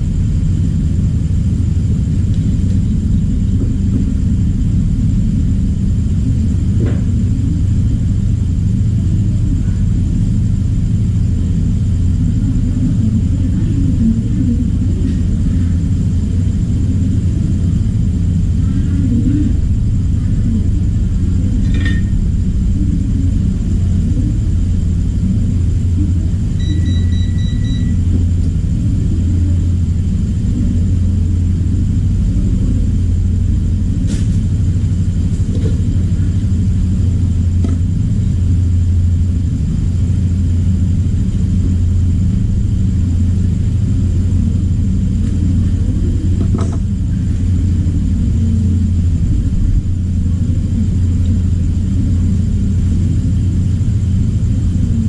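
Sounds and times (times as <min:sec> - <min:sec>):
low hum and rumble: 0:00.0 - 0:55.0.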